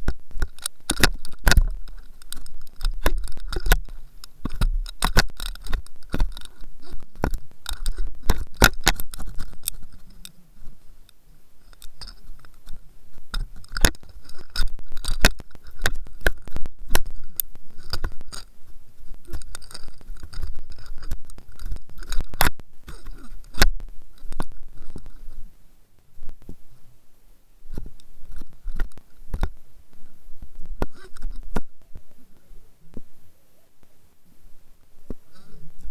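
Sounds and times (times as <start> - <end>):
clicking and crackling: 0.0 - 26.6, 27.7 - 33.1.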